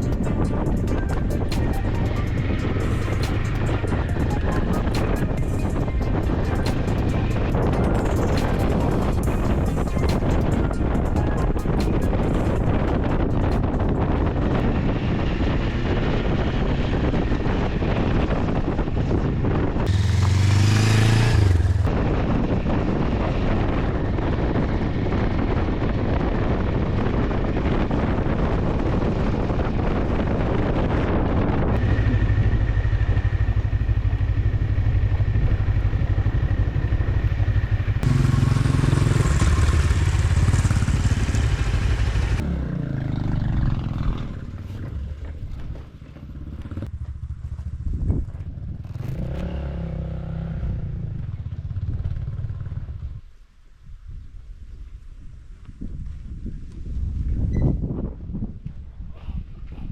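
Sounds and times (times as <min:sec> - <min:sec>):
motorcycle engine running: 0:00.0 - 0:53.3.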